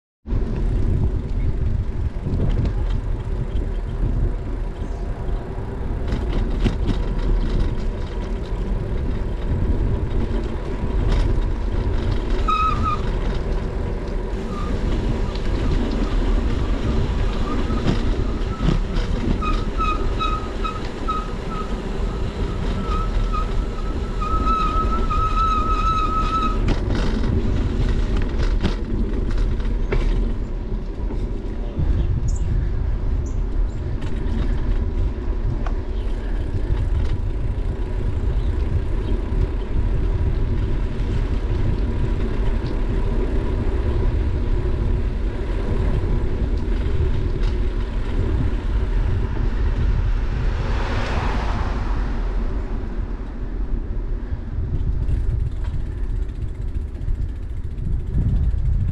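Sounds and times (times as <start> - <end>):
wind rumble on microphone: 0.2 - 58.9
bicycle tyres rolling on asphalt: 0.3 - 58.9.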